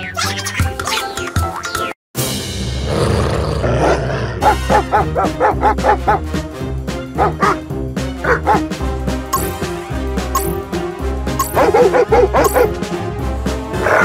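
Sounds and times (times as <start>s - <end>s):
cartoon background music: 0.0s - 2.4s, 4.4s - 14.0s.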